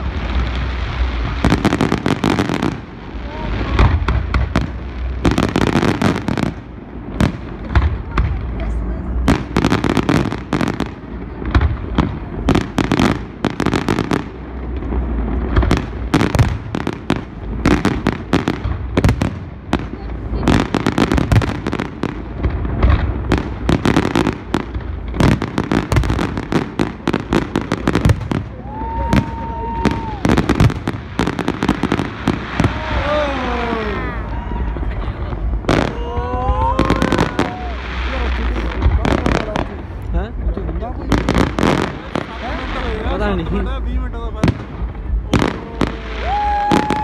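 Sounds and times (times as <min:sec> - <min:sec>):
fireworks bangs and crackling: 0:00.0 - 0:47.0.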